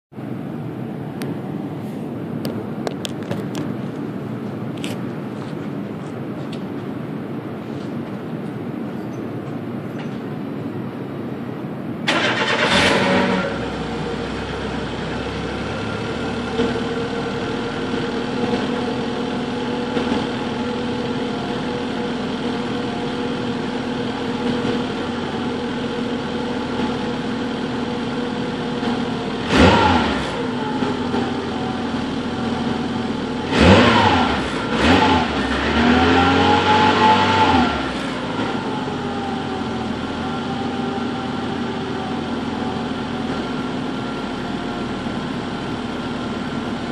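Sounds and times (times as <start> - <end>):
car engine idling and revving: 0.2 - 46.9.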